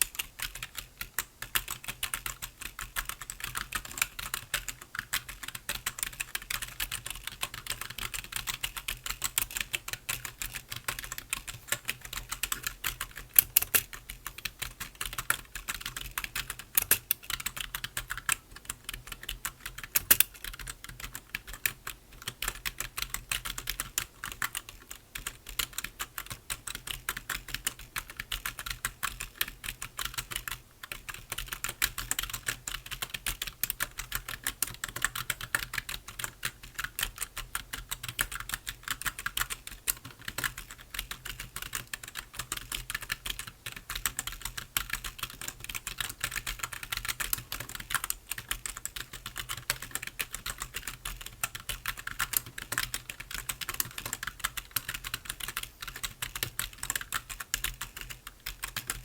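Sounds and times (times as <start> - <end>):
keyboard typing: 0.0 - 59.0.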